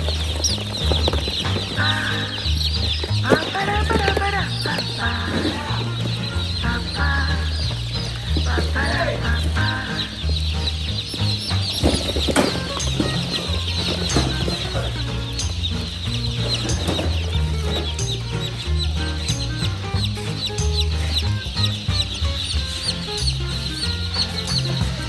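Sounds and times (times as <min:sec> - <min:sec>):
background music with bass line: 0:00.0 - 0:25.0
chicks peeping: 0:00.0 - 0:25.0.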